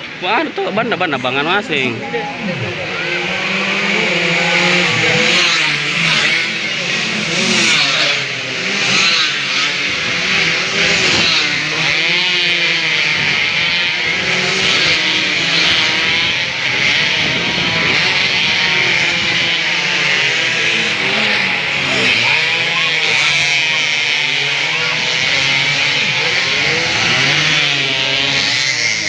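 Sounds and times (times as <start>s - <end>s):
motorcycles revving high: 0.0s - 29.0s.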